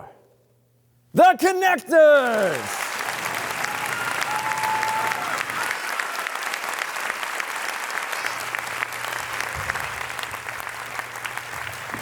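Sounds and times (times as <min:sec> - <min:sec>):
audience clapping: 0:01.8 - 0:12.0.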